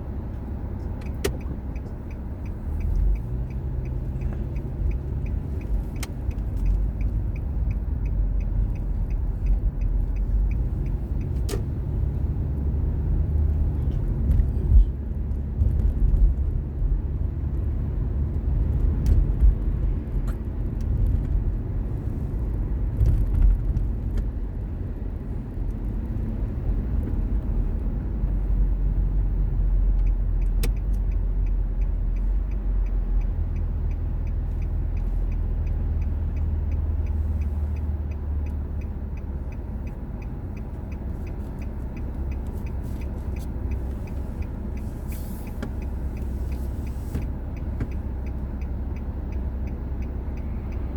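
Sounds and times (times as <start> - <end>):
car road and engine rumble: 0.0 - 50.9
turn signal ticking: 0.0 - 50.9.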